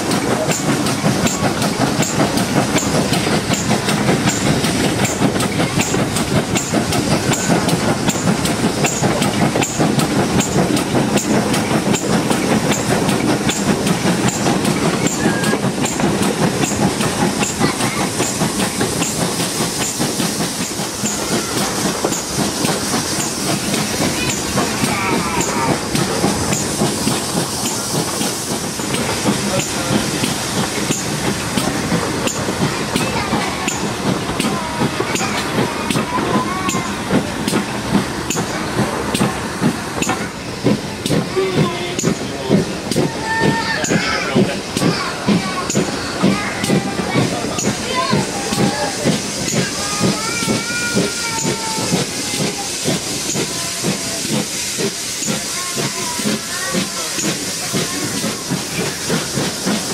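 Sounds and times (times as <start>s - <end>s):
rushing hiss: 0.0s - 59.9s
wheels rumbling on rail: 0.0s - 59.9s.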